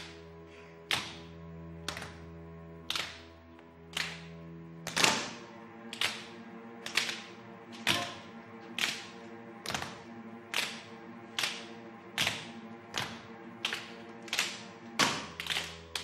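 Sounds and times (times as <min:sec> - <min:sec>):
soft sustained music: 0:00.0 - 0:16.0.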